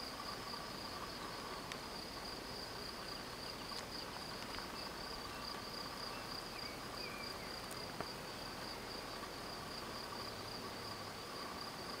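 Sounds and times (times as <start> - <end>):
insects trilling high-pitched: 0.0 - 12.0.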